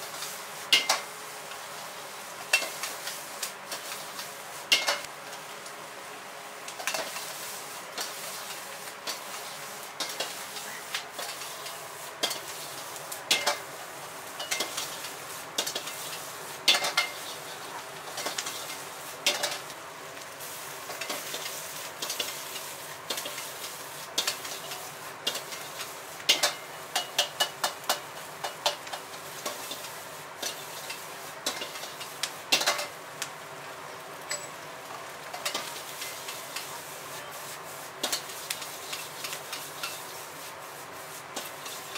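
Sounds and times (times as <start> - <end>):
food sizzling in a wok: 0.0 - 41.9
gas burner: 0.0 - 41.9.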